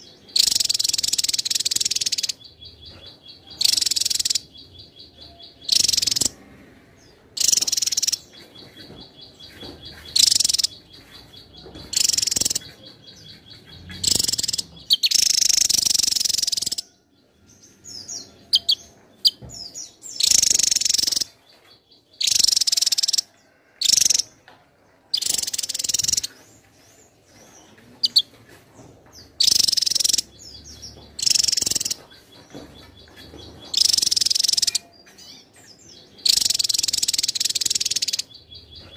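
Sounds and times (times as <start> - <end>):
bird singing high rapid notes: 0.0 - 6.5, 7.3 - 17.0, 17.6 - 24.3, 29.3 - 38.9.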